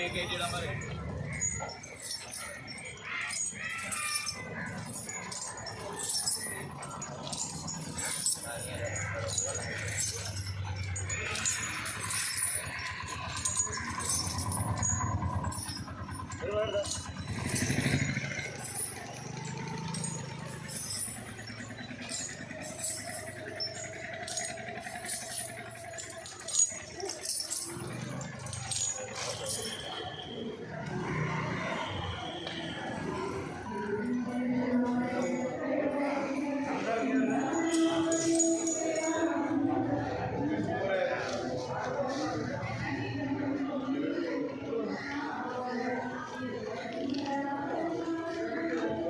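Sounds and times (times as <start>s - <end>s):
metal chains jangling: 0.0s - 43.2s
metal jingling and clinking: 0.0s - 43.2s, 46.2s - 49.0s.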